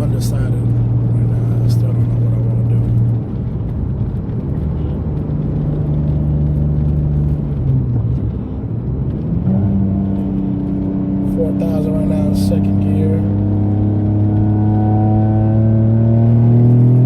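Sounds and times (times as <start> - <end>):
car engine and exhaust while driving: 0.0 - 17.0.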